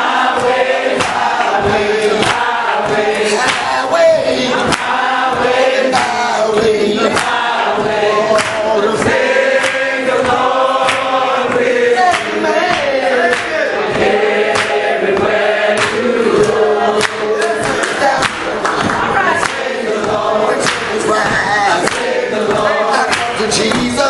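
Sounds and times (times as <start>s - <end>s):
congregation singing a hymn: 0.0s - 24.0s
sharp knocks: 0.0s - 24.0s.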